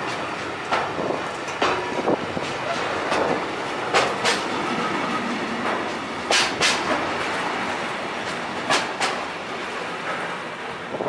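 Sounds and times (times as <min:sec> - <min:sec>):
wheels clicking over rail joints: 0:00.0 - 0:10.8
freight train rumbling past: 0:00.0 - 0:11.0.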